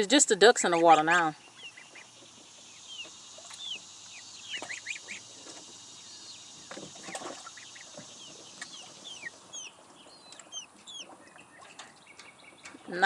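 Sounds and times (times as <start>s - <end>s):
chicks peeping: 0.6s - 13.0s.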